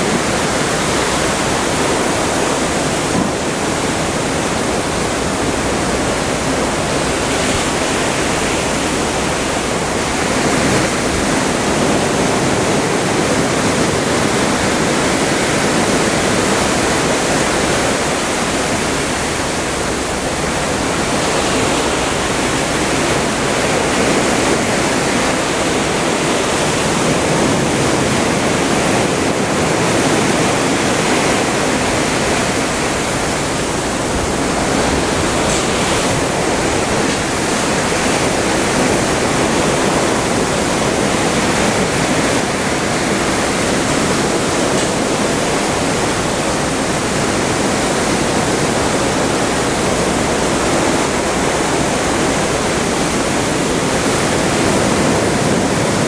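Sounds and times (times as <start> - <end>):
seawater rushing along ship: 0.0 - 56.0.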